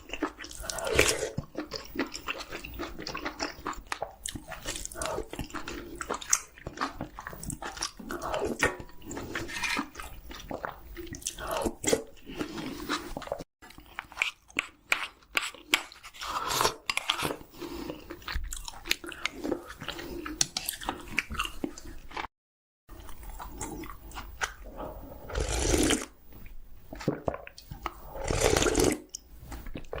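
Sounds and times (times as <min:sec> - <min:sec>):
person chewing crunchy chicken: 0:00.0 - 0:22.3, 0:22.9 - 0:26.1.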